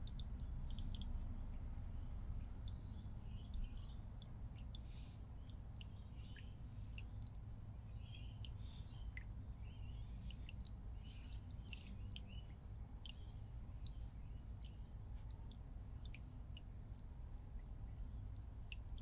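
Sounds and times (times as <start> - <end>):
aquarium low hum: 0.0 - 19.0
high ticks and drip-like clicks: 0.0 - 19.0.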